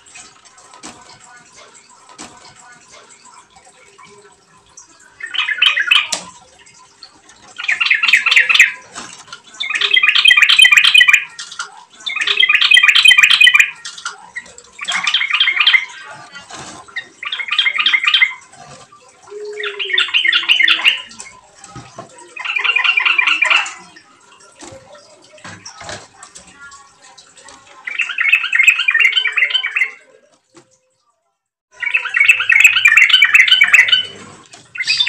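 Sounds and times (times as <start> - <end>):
bird chattering song: 0.6 - 30.2, 31.7 - 35.0.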